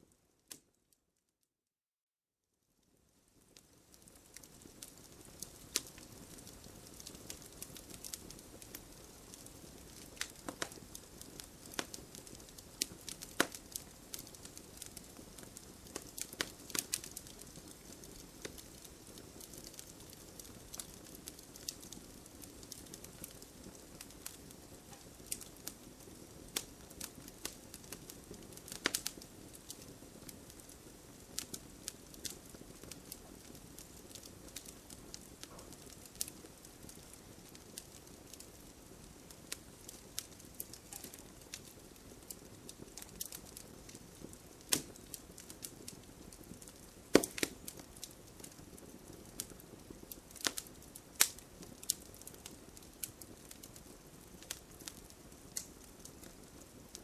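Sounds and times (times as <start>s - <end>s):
wood fire crackling: 0.0s - 0.9s, 2.8s - 57.0s.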